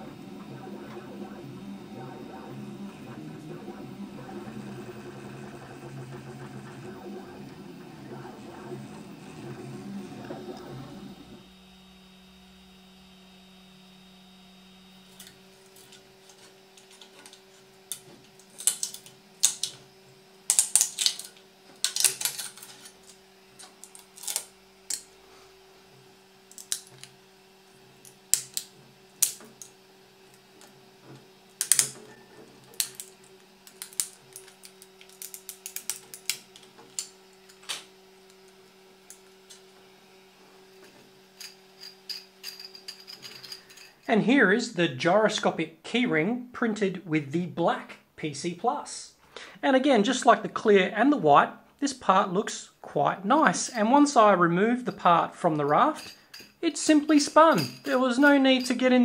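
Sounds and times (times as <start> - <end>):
steady low hum: 0.0 - 47.5.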